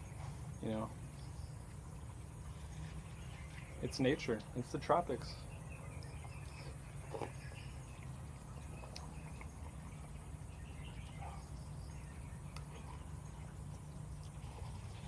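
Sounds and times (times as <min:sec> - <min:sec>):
bird or insect chirps: 0:00.0 - 0:14.4
steady low rumble: 0:00.0 - 0:15.0.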